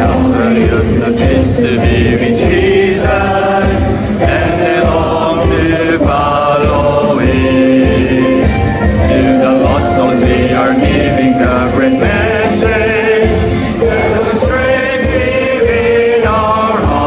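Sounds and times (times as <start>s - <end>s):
gospel music with singing voices: 0.0s - 17.0s.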